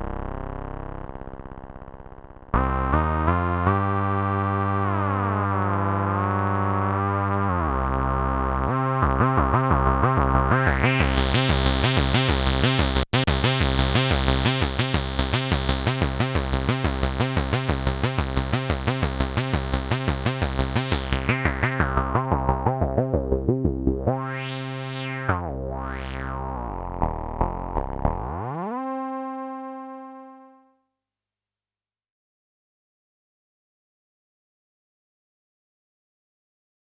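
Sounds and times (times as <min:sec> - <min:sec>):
synthesizer bass sequence: 0:00.0 - 0:30.3.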